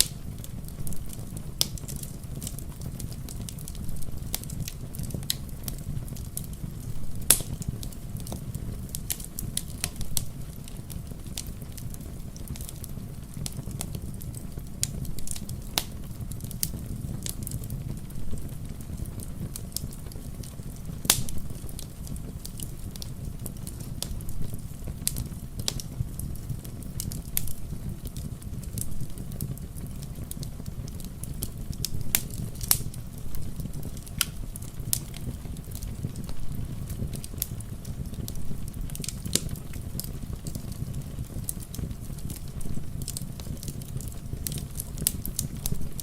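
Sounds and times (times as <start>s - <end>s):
rain: 0.0s - 46.0s
wood fire crackling: 0.0s - 46.0s.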